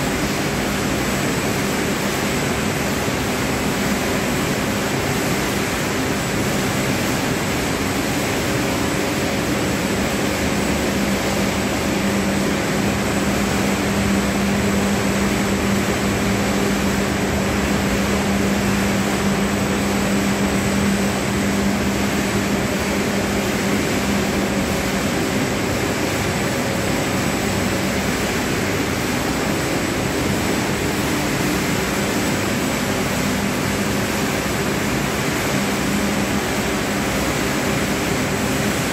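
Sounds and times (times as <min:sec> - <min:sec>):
grain cleaning machine running: 0:00.0 - 0:38.9.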